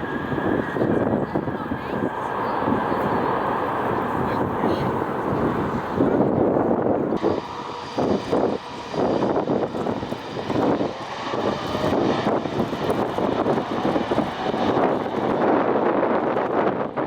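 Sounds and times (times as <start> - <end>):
faint engine whine: 0.0 - 17.0
jet engines running: 0.0 - 17.0.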